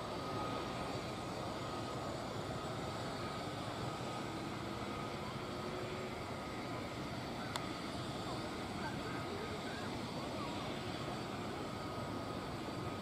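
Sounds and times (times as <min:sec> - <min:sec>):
faint high whine: 0:00.0 - 0:13.0
helicopter rotors droning: 0:00.0 - 0:13.0.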